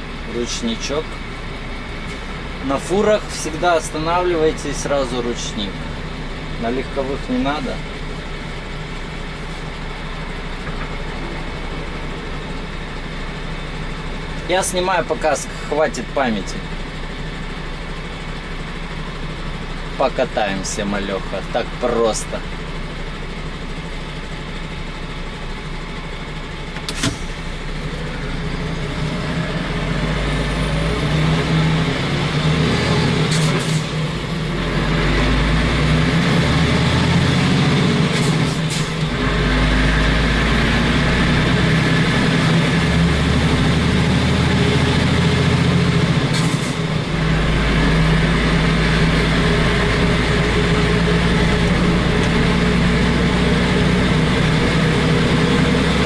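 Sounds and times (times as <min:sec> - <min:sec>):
truck diesel engine accelerating: 0:00.0 - 0:56.0.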